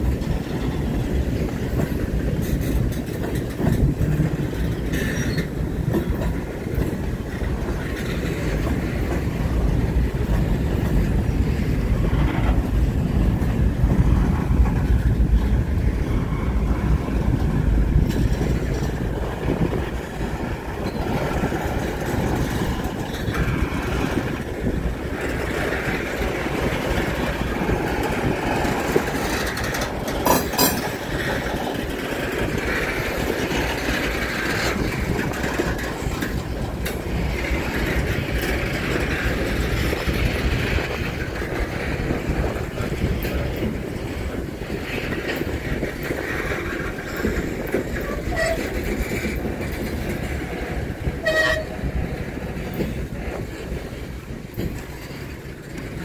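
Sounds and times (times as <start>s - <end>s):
freight train rolling on rails: 0.0s - 56.0s.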